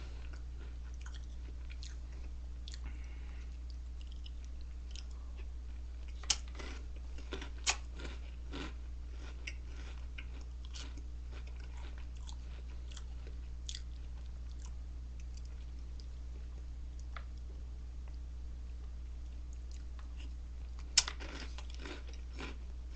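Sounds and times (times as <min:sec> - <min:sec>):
person chewing crunchy cereal: 0:00.0 - 0:17.5, 0:19.3 - 0:22.9
low electrical hum: 0:00.0 - 0:22.9.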